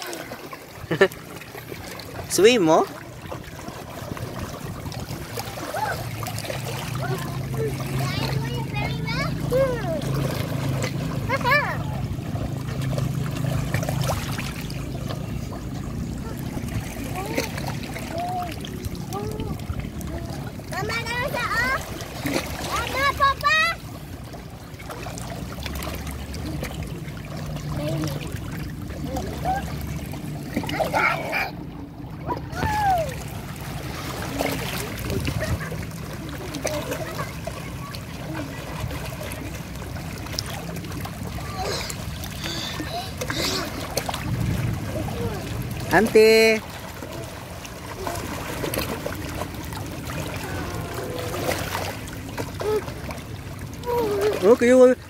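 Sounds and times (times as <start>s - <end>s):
sea water sloshing around rocks: 0.0s - 55.0s
small water splashes: 0.0s - 55.0s
small waves washing: 0.0s - 55.0s.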